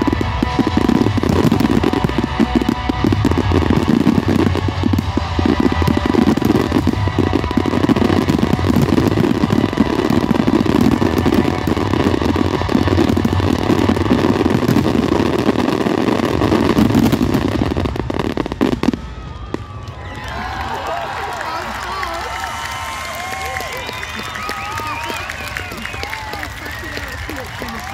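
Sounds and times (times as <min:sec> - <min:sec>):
fireworks bursting and crackling: 0:00.0 - 0:27.9.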